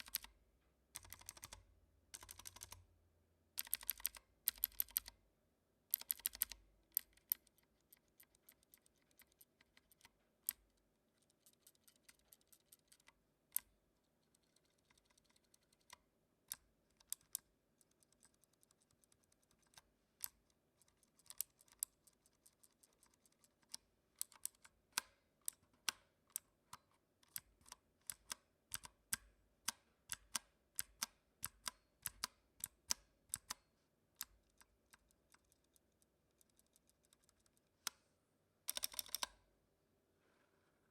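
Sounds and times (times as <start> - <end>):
mechanical keyboard typing: 0.0 - 2.9, 3.6 - 5.2, 5.9 - 33.6, 38.7 - 39.4.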